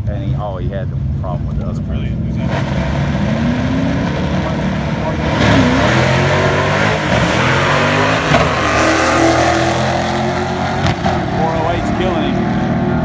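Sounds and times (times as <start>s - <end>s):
gear change: 0.0s - 13.0s
race car engine at full throttle: 0.0s - 13.0s.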